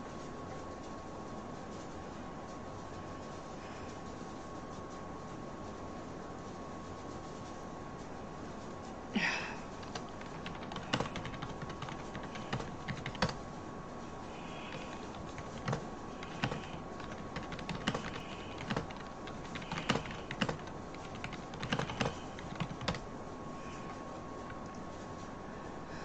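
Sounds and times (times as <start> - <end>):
faint steady whine: 0.0 - 26.0.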